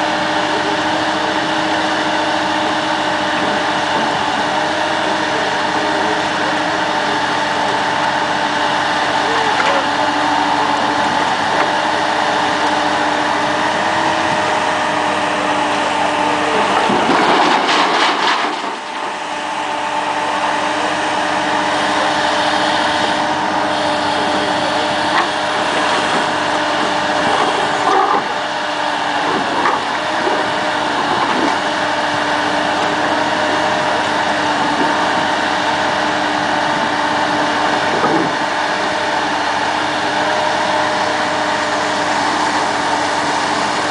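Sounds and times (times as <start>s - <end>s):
diesel engine and hydraulics hum: 0.0s - 43.9s.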